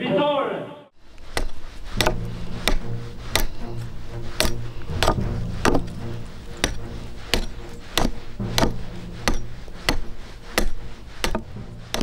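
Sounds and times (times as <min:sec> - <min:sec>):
background music: 0:00.8 - 0:12.0
hammer striking wooden pole: 0:01.1 - 0:12.0.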